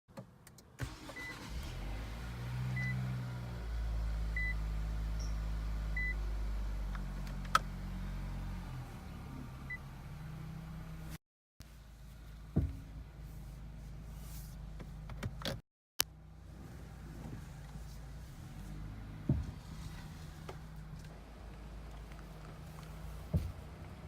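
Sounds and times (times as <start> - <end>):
car low rumble: 0.8 - 24.0.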